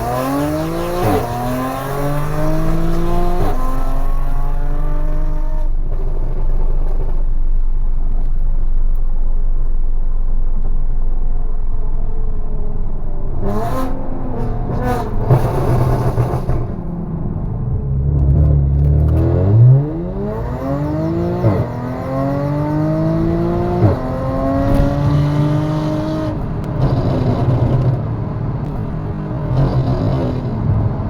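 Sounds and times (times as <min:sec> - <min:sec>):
car engine accelerating hard: 0:00.0 - 0:31.0.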